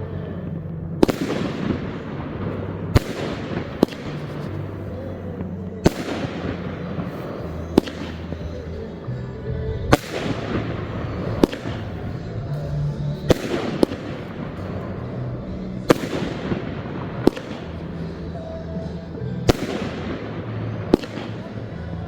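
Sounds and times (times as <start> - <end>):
background music: 0.0 - 22.0
fireworks bursting with crackle: 0.0 - 22.0.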